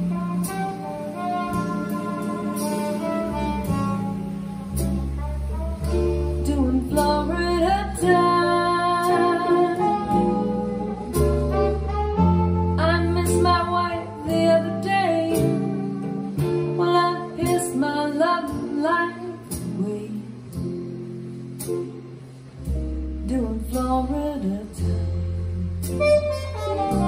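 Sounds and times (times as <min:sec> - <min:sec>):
deep bass: 0:00.0 - 0:27.0.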